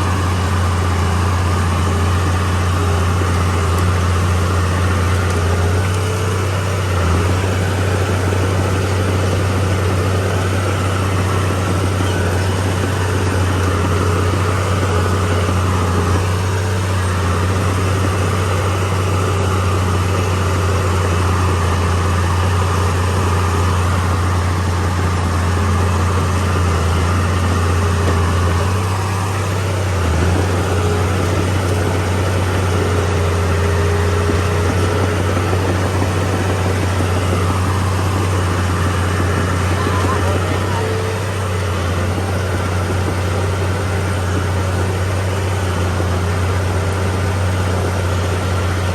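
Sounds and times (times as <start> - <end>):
bulldozer diesel engine droning: 0.0 - 48.9.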